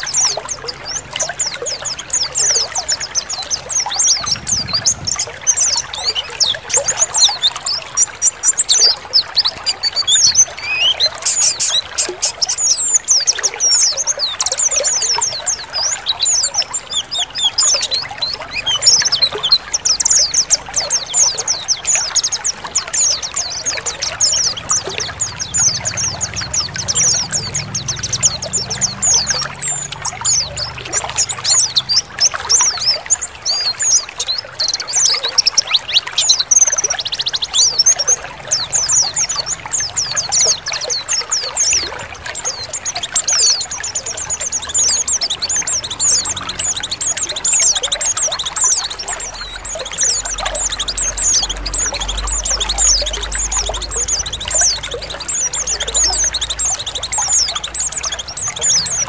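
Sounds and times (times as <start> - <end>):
birds chirping and twittering: 0.0 - 59.0
trickling water: 0.0 - 59.0.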